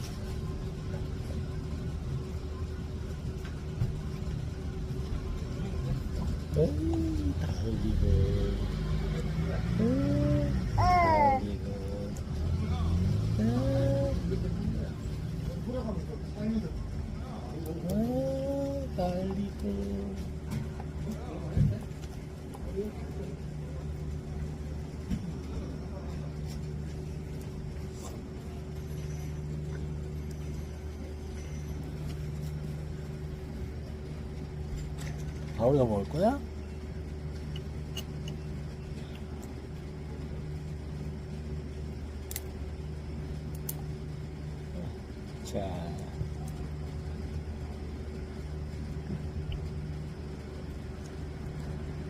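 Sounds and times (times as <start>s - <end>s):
engine humming: 0.0s - 52.0s.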